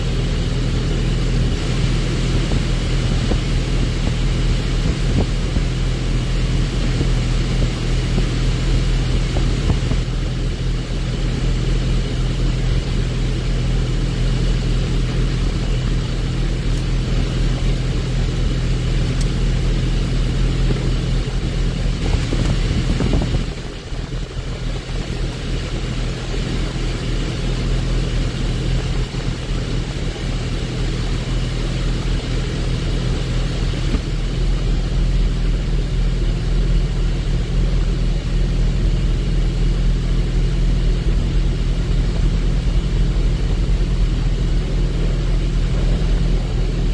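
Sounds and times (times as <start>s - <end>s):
car engine running: 0.0s - 46.9s
road and wind noise: 0.0s - 46.9s.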